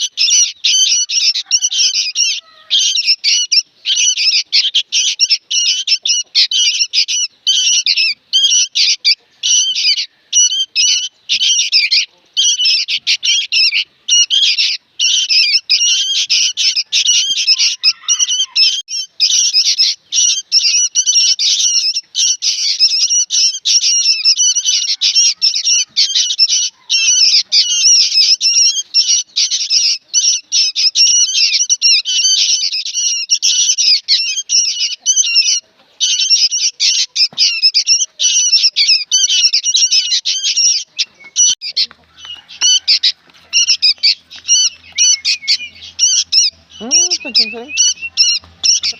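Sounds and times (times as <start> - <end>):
young bird shrill rapid calls: 0.0 - 48.9.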